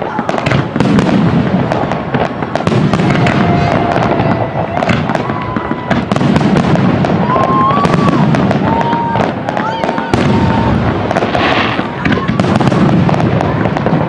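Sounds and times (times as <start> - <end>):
fireworks crackling and popping: 0.0 - 14.0
fireworks whistling: 0.0 - 14.0.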